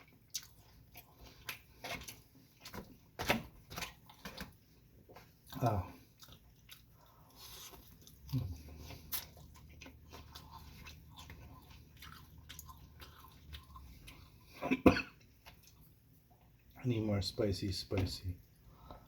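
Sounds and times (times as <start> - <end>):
person chewing food: 0.0 - 16.8.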